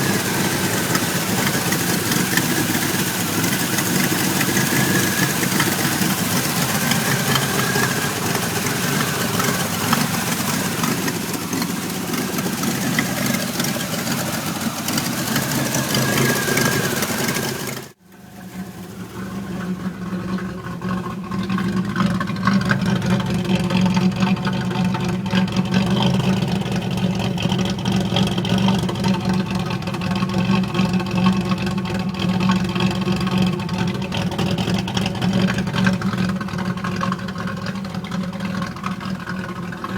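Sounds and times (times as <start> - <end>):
car engine idling roughly: 0.0 - 39.9.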